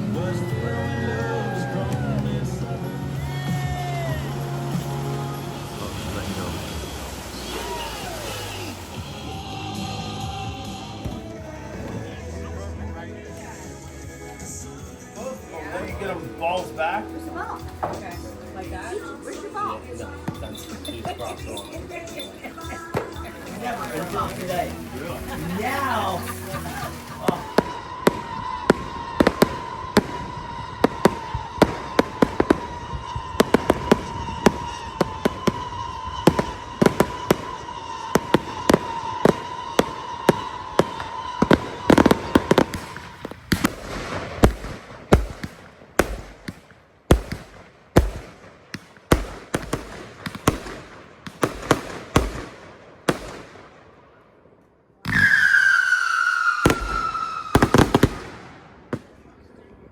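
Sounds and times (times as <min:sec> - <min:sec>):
fireworks whistle: 0:00.0 - 0:12.0, 0:15.8 - 0:53.6, 0:55.0 - 0:59.1
fireworks bangs and booms: 0:01.7 - 0:12.3, 0:17.6 - 0:54.4, 0:55.0 - 0:59.9
fireworks crackling pops: 0:03.6 - 0:12.1, 0:15.8 - 0:54.0, 0:55.0 - 0:59.3.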